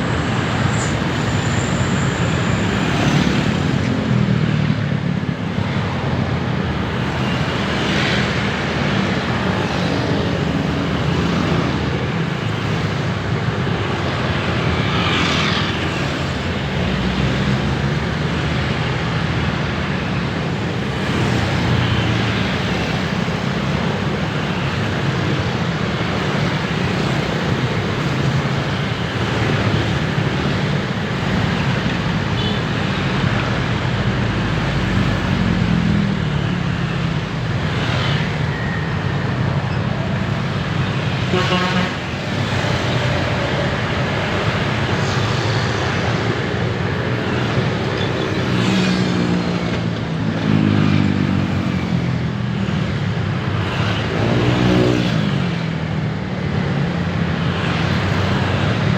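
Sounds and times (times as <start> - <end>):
road traffic rumble: 0.0 - 58.9
vehicles passing by: 0.0 - 58.9.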